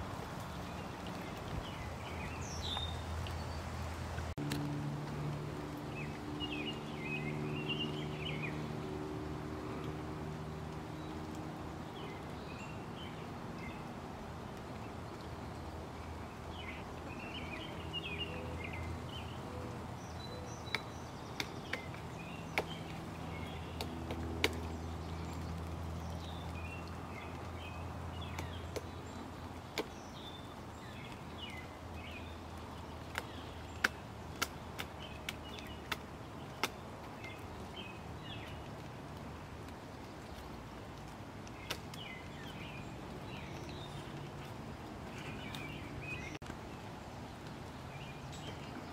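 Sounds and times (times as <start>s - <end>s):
small birds twittering: 0.4s - 4.0s, 5.7s - 48.9s.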